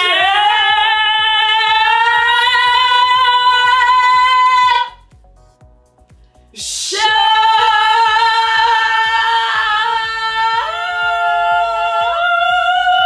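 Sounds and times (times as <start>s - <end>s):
steady beat: 0.0s - 13.0s.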